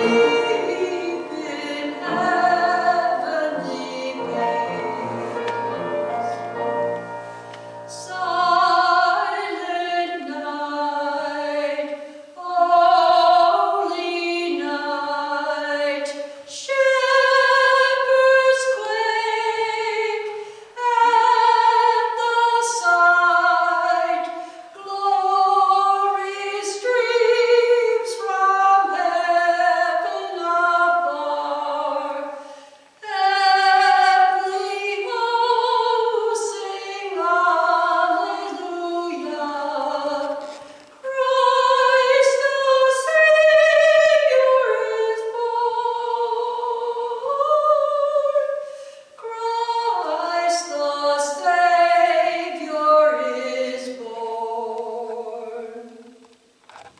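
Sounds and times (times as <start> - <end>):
church choir singing: 0.0 - 32.4, 33.0 - 48.6, 49.2 - 56.1.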